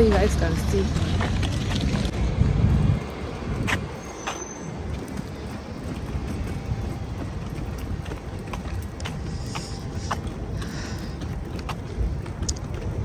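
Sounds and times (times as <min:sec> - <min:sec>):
traffic rumble: 0:00.0 - 0:13.0
wind on microphone: 0:00.8 - 0:13.0.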